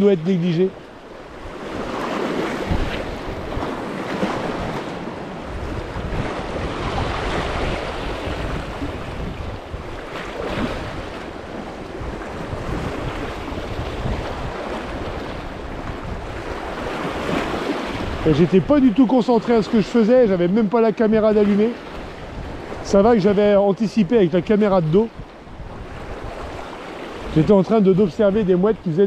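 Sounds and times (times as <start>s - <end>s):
sea surf washing: 0.0s - 29.0s
wind rumbling on microphone: 0.7s - 29.0s.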